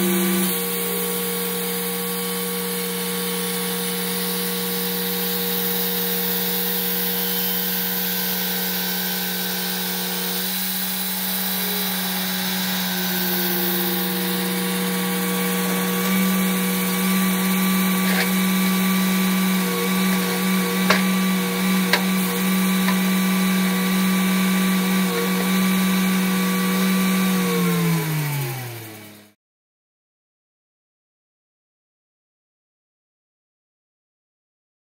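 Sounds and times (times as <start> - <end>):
bandsaw mill humming: 0.0 - 29.3.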